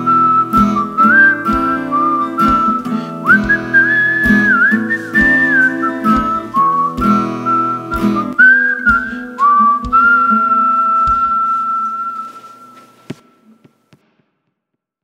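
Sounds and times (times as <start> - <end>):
whistled melody: 0.0 - 13.4
guitar chords: 0.0 - 13.7.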